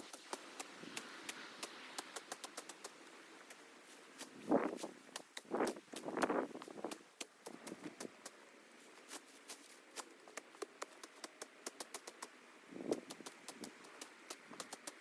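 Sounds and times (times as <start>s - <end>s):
brush rustling: 0.0s - 15.0s.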